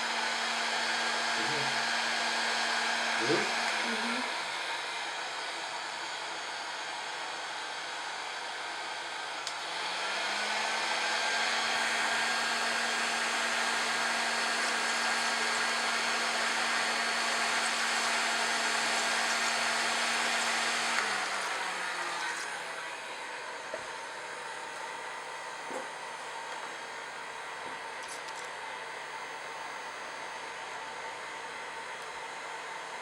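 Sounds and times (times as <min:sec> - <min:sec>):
hot-air blower whirring: 0:00.0 - 0:33.0.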